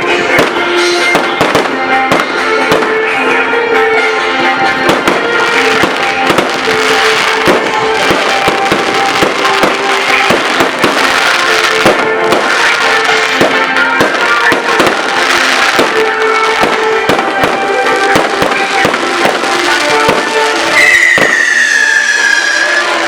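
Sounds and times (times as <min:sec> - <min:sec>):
fireworks popping: 0:00.0 - 0:23.0
loud music with held notes: 0:00.0 - 0:23.0.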